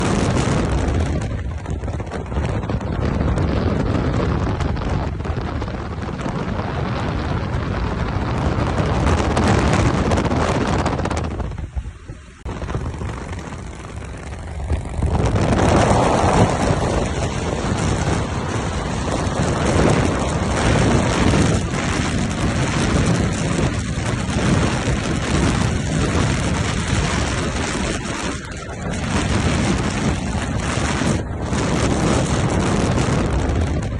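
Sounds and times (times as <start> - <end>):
motorcycle engine running: 0.0 - 33.9
wind noise on microphone: 0.0 - 33.9.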